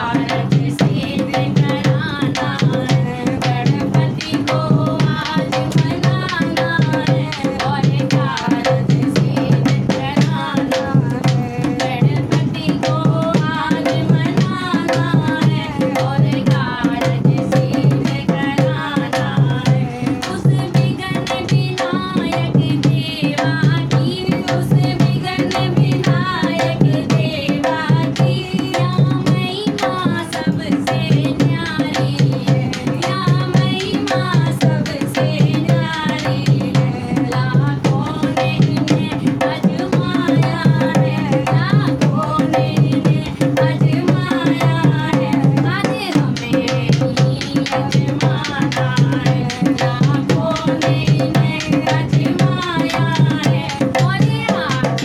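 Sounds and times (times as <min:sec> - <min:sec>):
hand drum rhythm: 0:00.0 - 0:55.0
women singing devotional song: 0:00.0 - 0:55.0.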